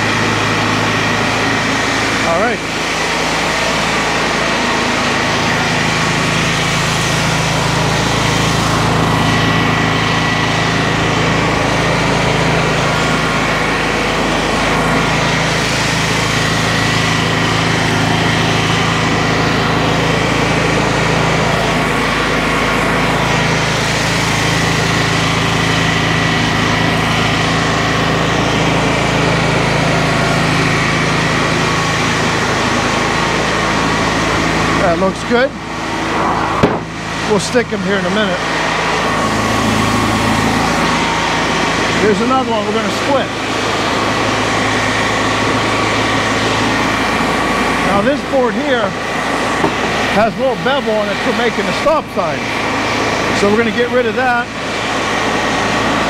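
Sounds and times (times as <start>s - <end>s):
board edger sawing wood: 0.0s - 56.0s.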